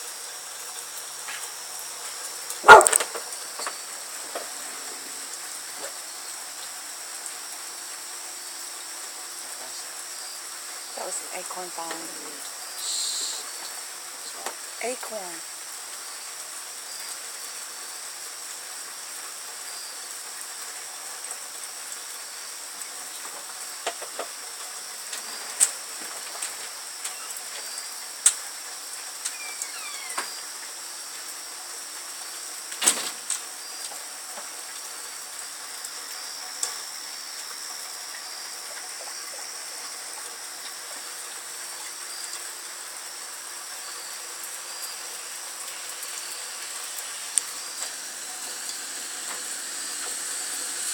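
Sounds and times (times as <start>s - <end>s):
night insects chirping: 0.0s - 50.9s
steady light rain: 0.0s - 50.9s.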